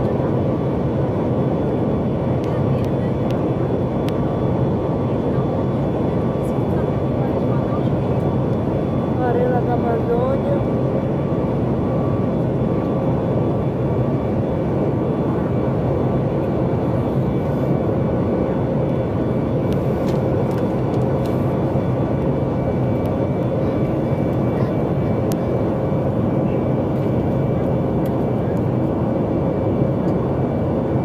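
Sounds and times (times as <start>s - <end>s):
aircraft cabin drone: 0.0s - 31.0s.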